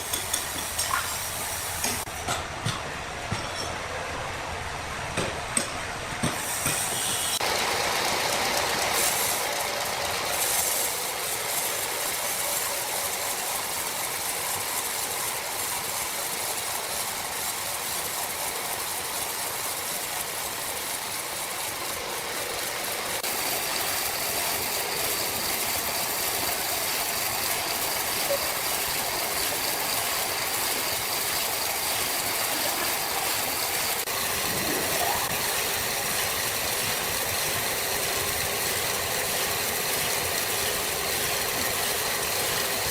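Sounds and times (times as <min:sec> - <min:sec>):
sawmill machinery rattling: 0:00.0 - 0:42.9.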